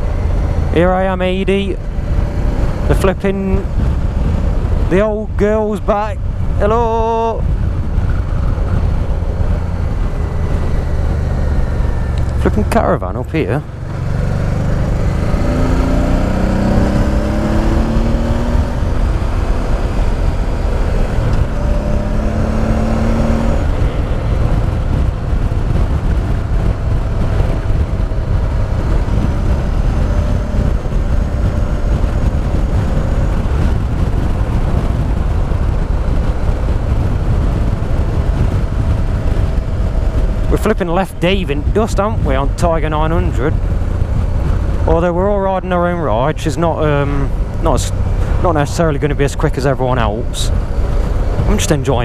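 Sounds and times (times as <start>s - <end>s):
wind rushing: 0.0s - 52.0s
motorcycle engine pulling hard: 6.4s - 52.0s.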